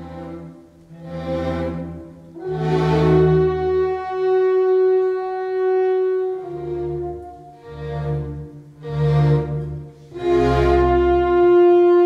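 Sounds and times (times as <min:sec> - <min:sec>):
heavy low strings: 0:00.0 - 0:12.0
orchestral chords: 0:00.0 - 0:12.0
horns and winds holding a note: 0:00.9 - 0:12.0.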